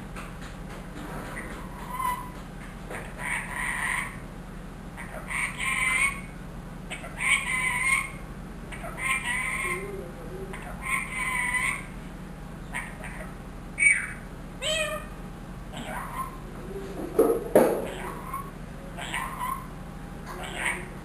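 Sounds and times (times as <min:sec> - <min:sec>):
parrot calling: 0:01.4 - 0:04.3, 0:05.0 - 0:12.0, 0:12.6 - 0:21.0.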